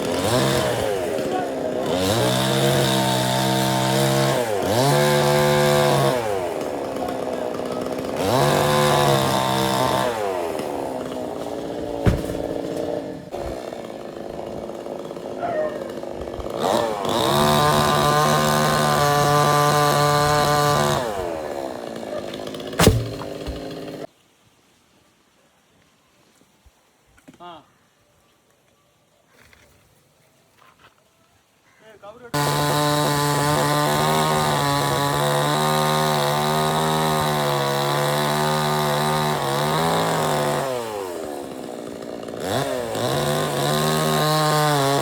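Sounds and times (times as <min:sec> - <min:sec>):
chainsaw revving: 0:00.0 - 0:24.1, 0:32.4 - 0:45.0.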